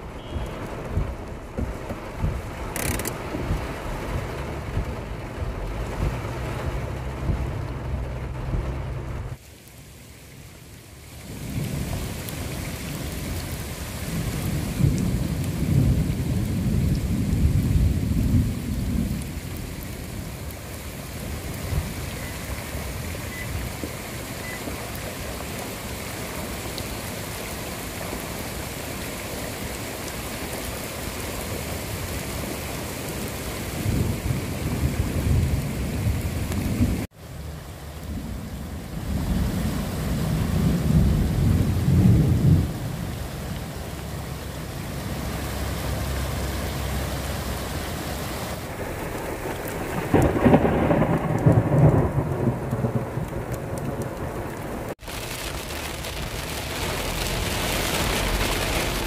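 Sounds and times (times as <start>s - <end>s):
floodwater rushing over rocks: 0.0s - 59.0s.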